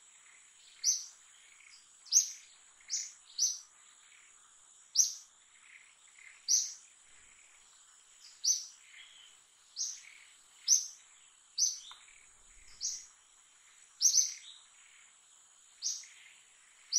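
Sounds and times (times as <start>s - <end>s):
bird chirping: 0.2s - 16.9s.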